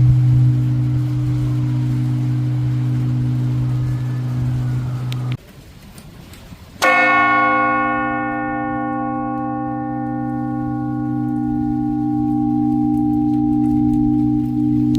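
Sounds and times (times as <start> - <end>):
large bell ringing: 0.0 - 5.4, 6.8 - 14.9.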